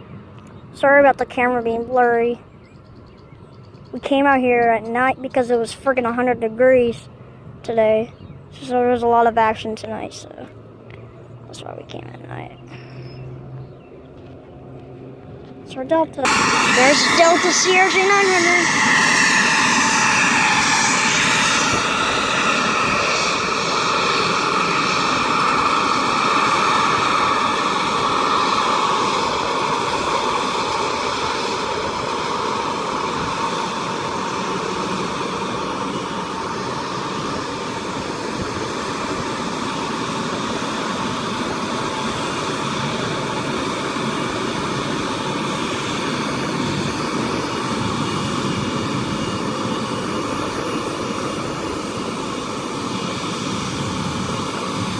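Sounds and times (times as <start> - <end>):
jet engines running with whine: 0.0 - 54.9.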